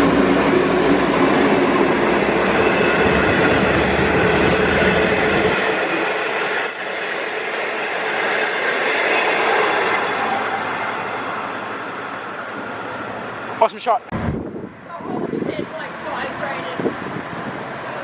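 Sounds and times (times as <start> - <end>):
train passing on rails: 0.0 - 18.0.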